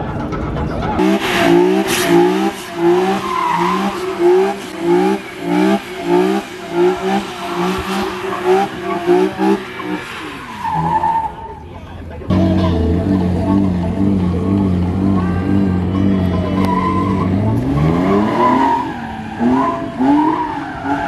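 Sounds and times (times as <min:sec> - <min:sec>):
tires squealing: 0:00.0 - 0:21.0
car engine revving in bursts: 0:01.0 - 0:11.7, 0:12.3 - 0:21.0.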